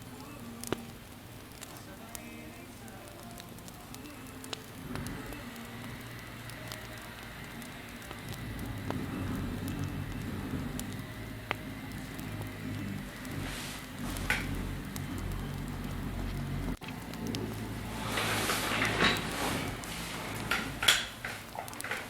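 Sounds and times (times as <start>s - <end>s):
campfire flames rumbling: 0.0s - 22.0s
fire crackling and popping: 0.0s - 22.0s.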